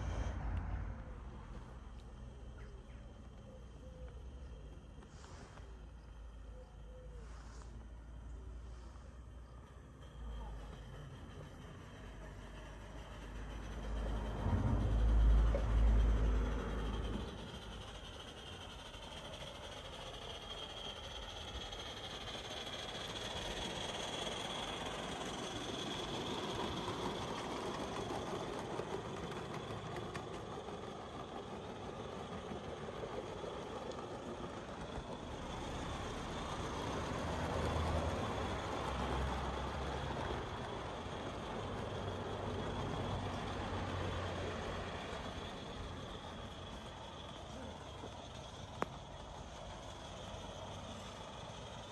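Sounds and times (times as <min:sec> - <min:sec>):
model steam train running on track: 0:00.0 - 0:51.9.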